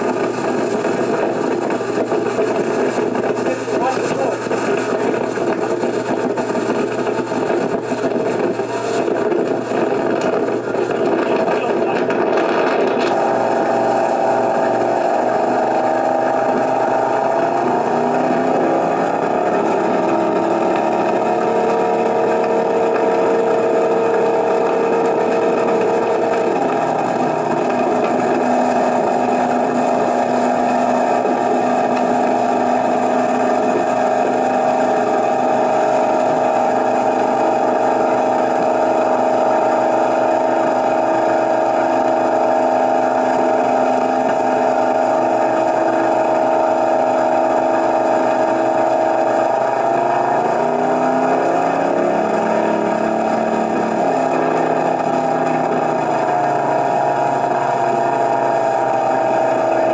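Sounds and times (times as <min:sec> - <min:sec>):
boat engine running: 0:00.0 - 0:59.9
water rushing along hull: 0:00.0 - 0:59.9.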